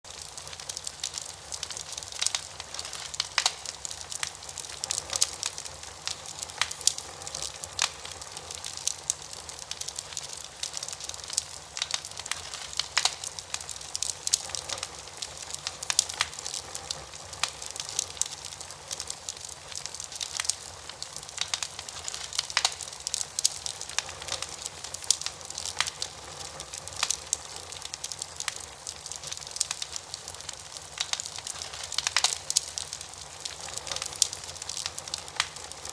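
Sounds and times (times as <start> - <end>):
campfire crackling and popping: 0.1 - 35.9
fire hissing: 0.1 - 35.9.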